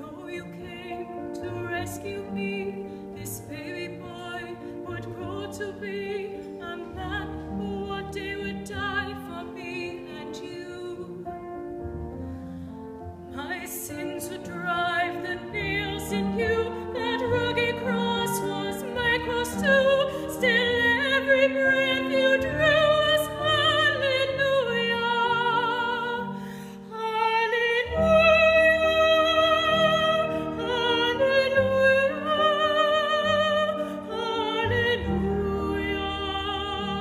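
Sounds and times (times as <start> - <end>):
soprano singing with vibrato: 0.0 - 11.8, 13.2 - 37.0.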